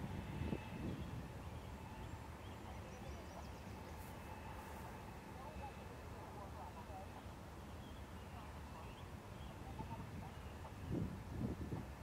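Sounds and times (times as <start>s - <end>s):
distant locomotives rumbling: 0.0s - 11.3s.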